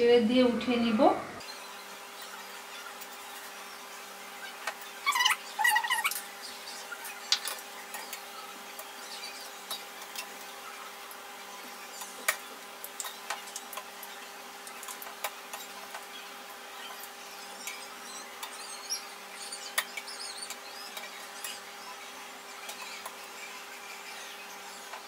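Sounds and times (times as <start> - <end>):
steady electric hum: 0.0 - 25.0
deep-frying crackle: 1.4 - 25.0.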